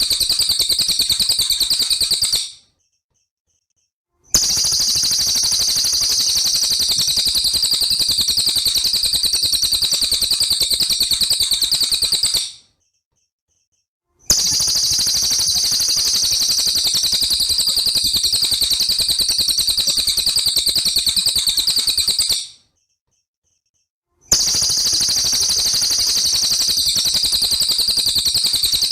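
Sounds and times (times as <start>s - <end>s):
songbird fast trill: 0.0s - 2.6s, 4.4s - 12.6s, 14.3s - 22.6s, 24.3s - 28.9s.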